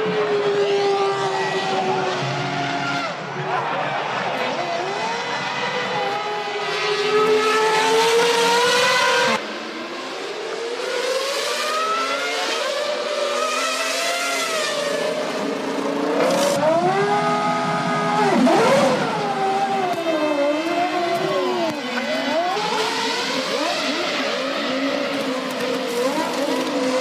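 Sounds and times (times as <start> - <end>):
racing car engines at high revs: 0.0 - 27.0.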